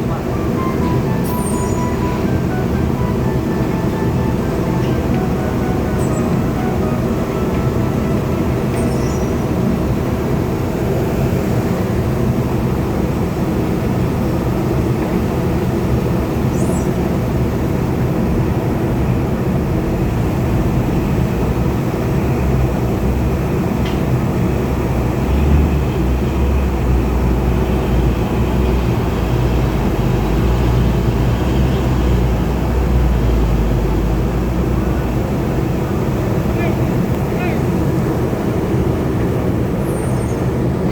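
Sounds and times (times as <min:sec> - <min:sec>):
heavy diesel engine rumbling: 0:00.0 - 0:40.9.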